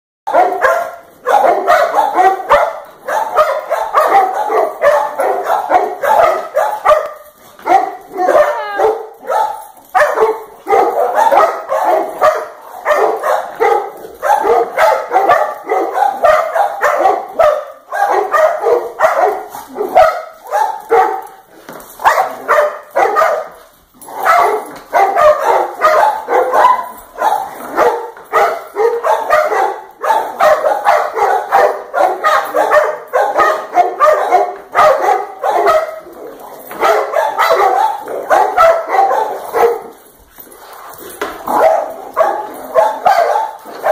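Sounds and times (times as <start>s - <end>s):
dogs barking and yipping: 0.3s - 43.9s.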